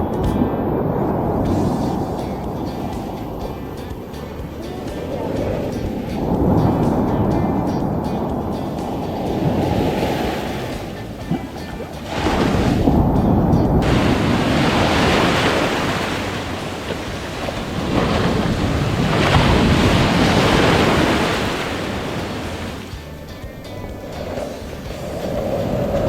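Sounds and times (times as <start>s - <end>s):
surf breaking on a beach: 0.0s - 26.0s
wind buffeting microphone: 0.0s - 26.0s.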